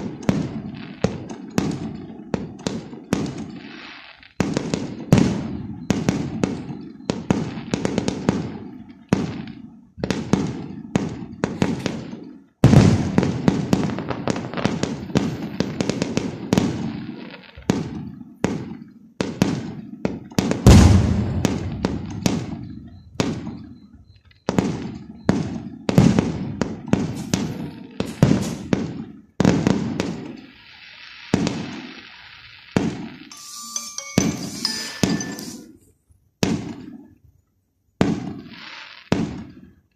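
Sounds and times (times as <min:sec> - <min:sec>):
firework bangs and booms: 0:00.0 - 0:33.3, 0:36.4 - 0:37.1, 0:38.0 - 0:39.8
fireworks hissing and crackling: 0:00.0 - 0:35.8, 0:36.4 - 0:37.1, 0:38.0 - 0:39.9.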